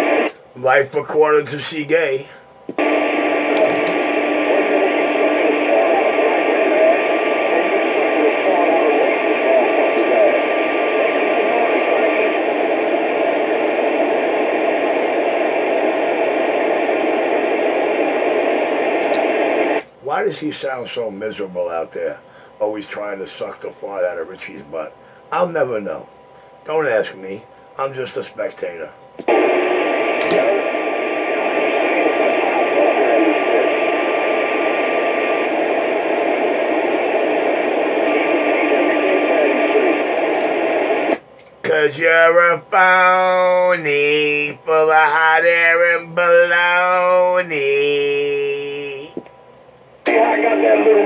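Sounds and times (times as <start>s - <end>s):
radio static hiss: 0.0s - 51.0s.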